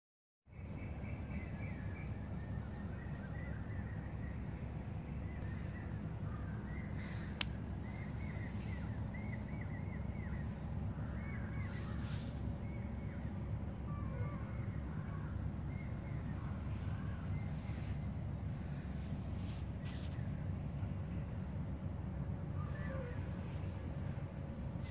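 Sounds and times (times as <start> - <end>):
small birds chirping: 0.5 - 24.9
low rumble: 1.0 - 24.9.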